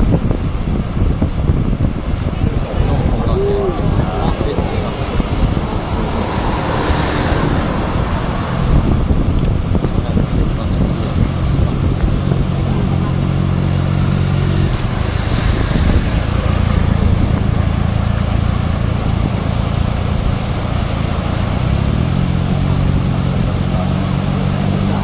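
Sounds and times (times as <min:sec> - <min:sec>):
loud rushing noise: 0:00.0 - 0:25.0
vehicle engine humming: 0:00.0 - 0:25.0.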